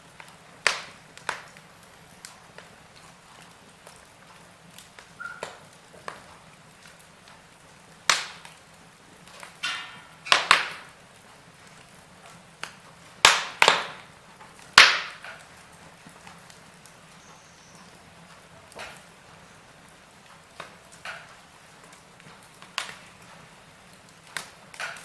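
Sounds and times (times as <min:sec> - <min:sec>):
sharp pops of burning logs: 0:00.0 - 0:25.0
wood fire crackling: 0:00.0 - 0:25.0.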